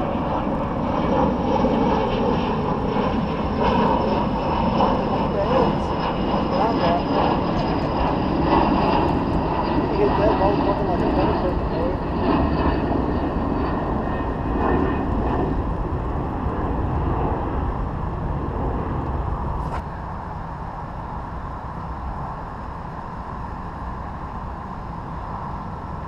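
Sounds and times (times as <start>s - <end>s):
airplane rumble passing over: 0.0s - 26.0s.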